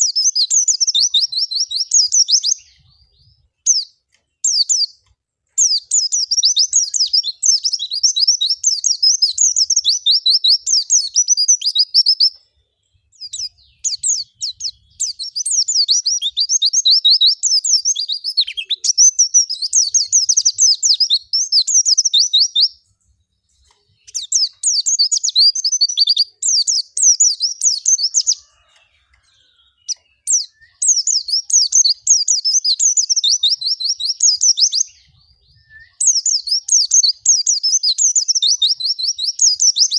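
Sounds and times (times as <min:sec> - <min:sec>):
bird twittering: 0:00.0 - 0:12.4, 0:13.0 - 0:23.0, 0:23.6 - 0:39.9.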